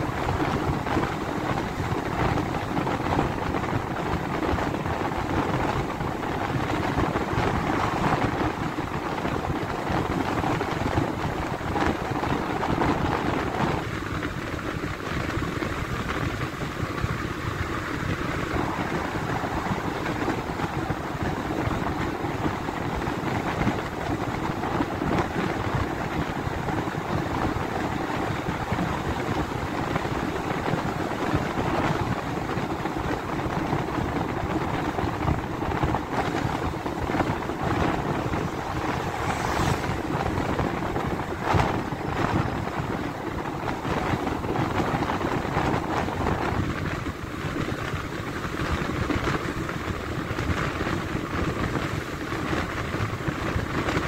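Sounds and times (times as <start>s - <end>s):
moving vehicle rumble: 0.0s - 54.0s
wind noise: 0.0s - 54.0s.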